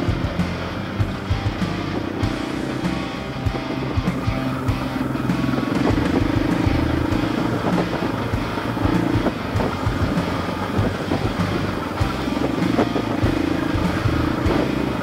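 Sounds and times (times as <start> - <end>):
bike knocking and rattling: 0.0 - 15.0
dirt bike engine revving: 0.0 - 15.0.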